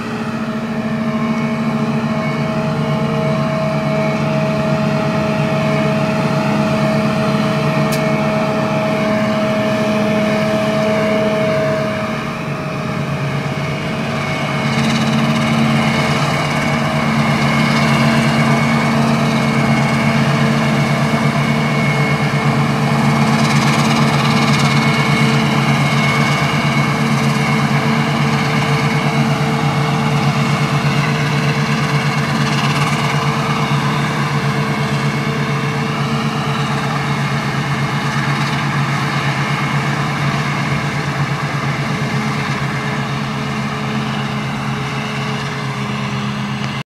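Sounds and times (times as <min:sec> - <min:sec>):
forage harvester drone: 0:00.0 - 0:46.8
tractor running: 0:00.0 - 0:46.8.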